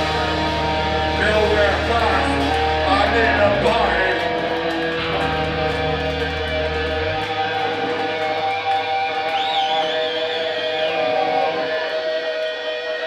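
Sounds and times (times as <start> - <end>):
electric guitars playing chords: 0.0 - 13.0.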